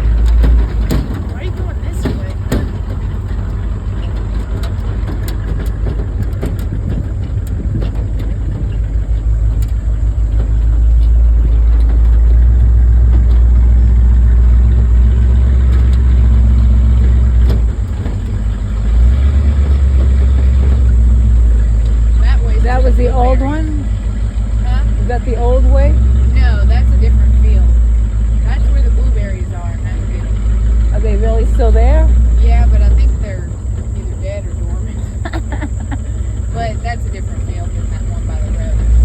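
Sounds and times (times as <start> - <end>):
knocks and rattles: 0.0 - 39.0
vehicle engine and road rumble: 0.0 - 39.0.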